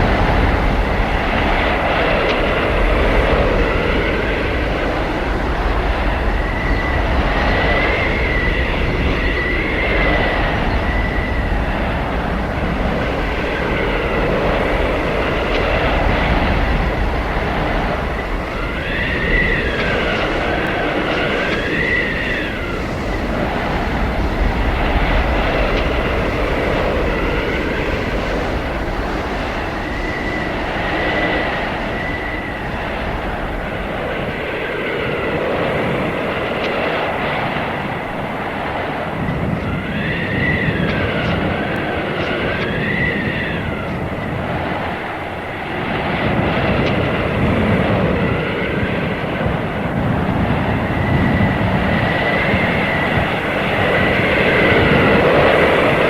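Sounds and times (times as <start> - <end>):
blizzard wind rushing: 0.0 - 56.0
high whistling wind howls: 0.0 - 56.0.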